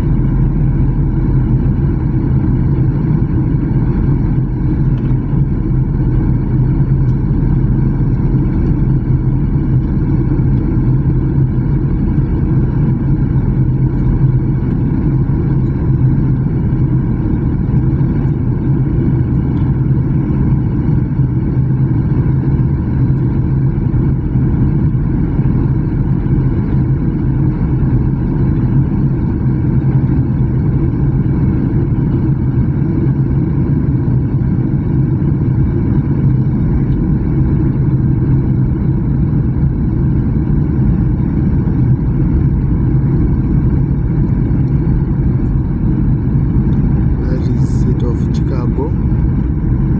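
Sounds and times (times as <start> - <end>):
jet airliner cabin rumble: 0.0 - 49.9.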